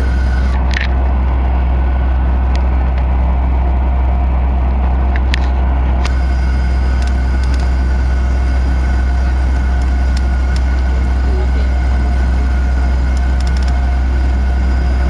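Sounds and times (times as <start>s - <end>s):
jet engines humming and whining: 0.0s - 15.0s.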